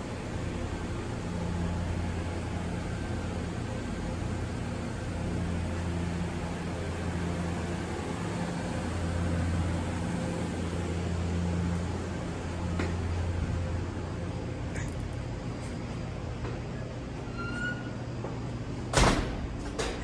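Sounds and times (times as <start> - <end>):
refrigeration equipment hum: 0.0 - 20.0.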